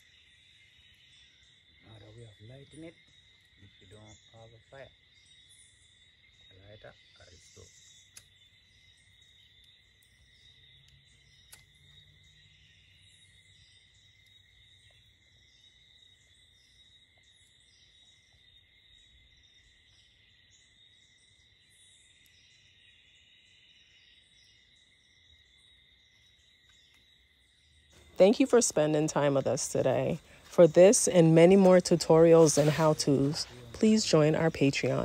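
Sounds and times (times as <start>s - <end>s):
insect chirps: 0.0s - 35.0s
insect chorus trilling: 0.0s - 35.0s.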